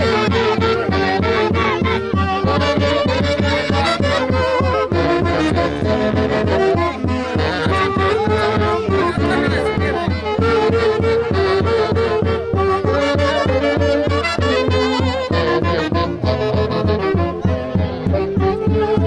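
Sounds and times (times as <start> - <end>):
folk dance music: 0.0 - 19.0.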